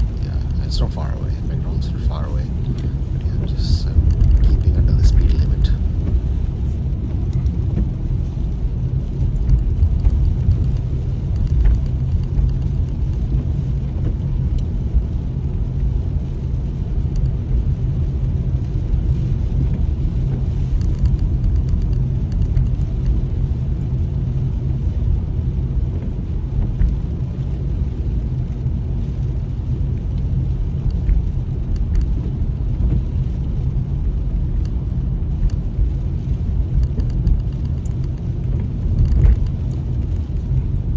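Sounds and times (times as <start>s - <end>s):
car engine rumble: 0.0s - 40.9s
car tyres on wet road: 0.0s - 40.9s.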